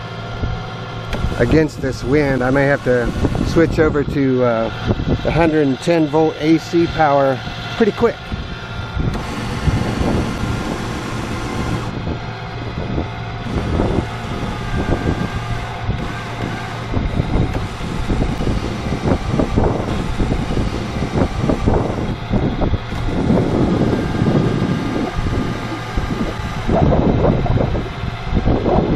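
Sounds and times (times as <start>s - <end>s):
electric boat motor humming: 0.0s - 28.9s
wind buffeting microphone: 0.0s - 28.9s.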